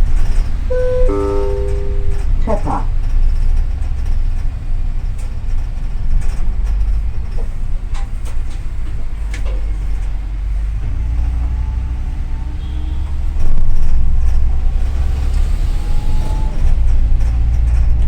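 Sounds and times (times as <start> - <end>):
bus engine and road rumble: 0.0 - 0.8, 2.3 - 18.0.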